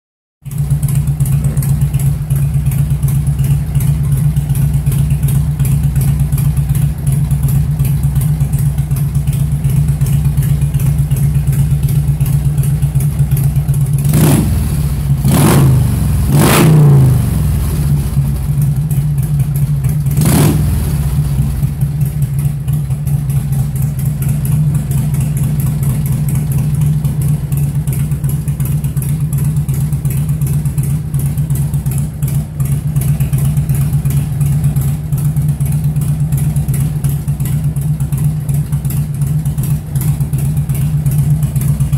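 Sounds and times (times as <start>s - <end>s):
motorcycle engine idling: 0.4s - 41.9s.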